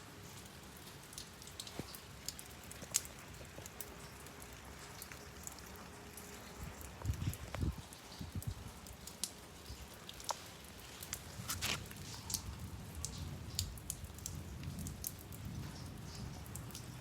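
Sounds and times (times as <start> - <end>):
raindrops ticking on surface: 0.0 - 17.0
steady rain hiss: 0.0 - 17.0.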